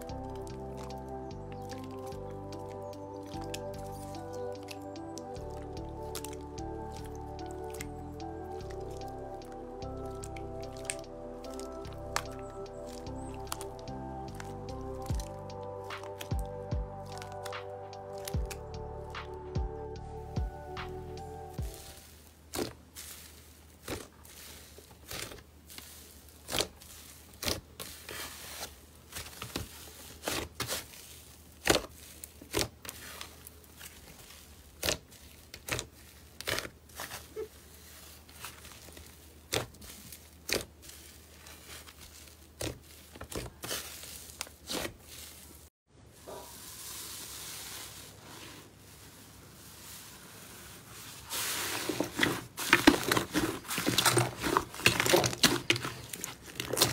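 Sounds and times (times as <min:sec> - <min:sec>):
slime popping and crackling: 0:00.0 - 0:19.3, 0:21.6 - 0:45.7, 0:51.7 - 0:56.9
slime crinkling rustle: 0:00.0 - 0:19.4, 0:21.6 - 0:56.9.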